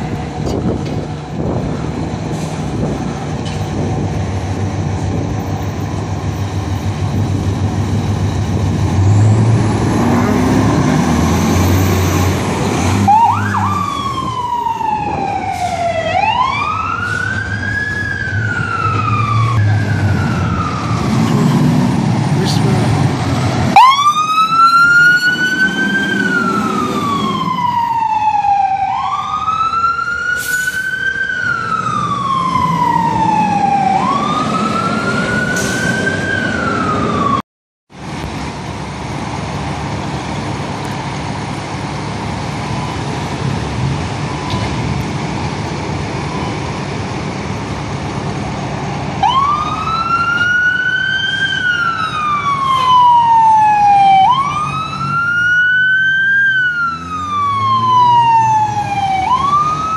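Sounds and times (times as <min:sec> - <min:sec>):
traffic hum: 0:00.0 - 0:59.9
truck engine rumble: 0:00.0 - 0:59.9
fire truck siren wailing: 0:04.9 - 0:37.4, 0:40.0 - 0:59.9.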